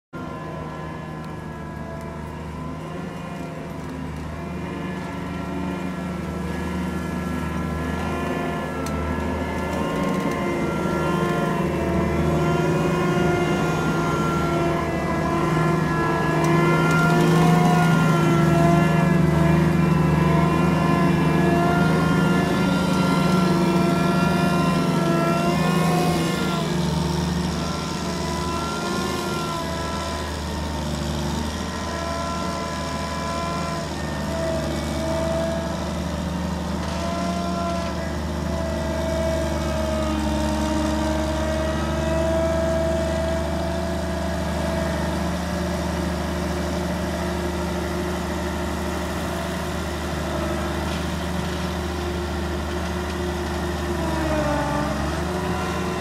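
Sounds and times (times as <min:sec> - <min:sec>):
combine harvester engine running: 0:00.2 - 0:56.0.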